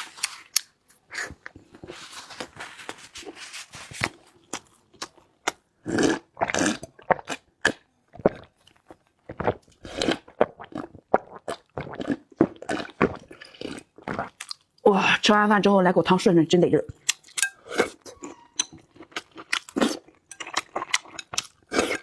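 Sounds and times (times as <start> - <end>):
chewing and crunching food: 0.0 - 14.8, 16.9 - 22.0.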